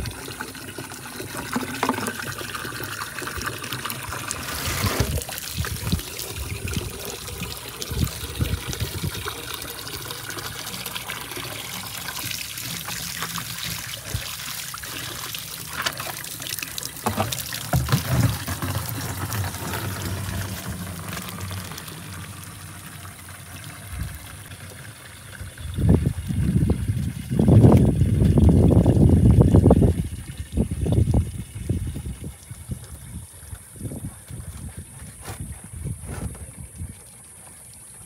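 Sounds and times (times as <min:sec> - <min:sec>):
water trickling and pouring: 0:00.0 - 0:38.0.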